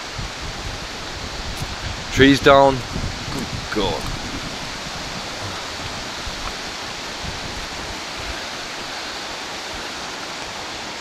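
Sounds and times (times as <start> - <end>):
fast-flowing stream water: 0.0 - 11.0.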